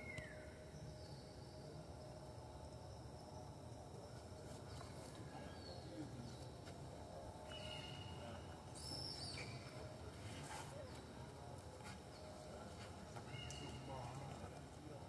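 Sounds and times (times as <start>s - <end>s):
low steady background rumble: 0.0s - 12.7s.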